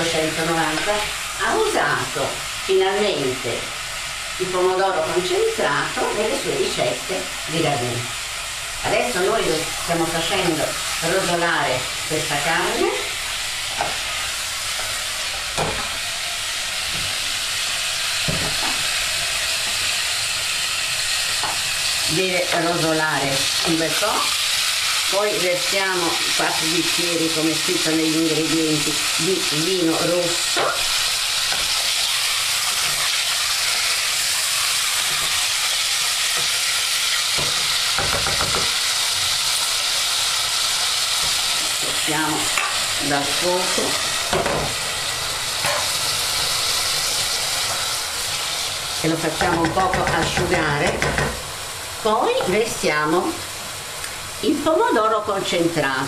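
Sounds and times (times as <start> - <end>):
meat sizzling in oil: 0.0 - 56.0.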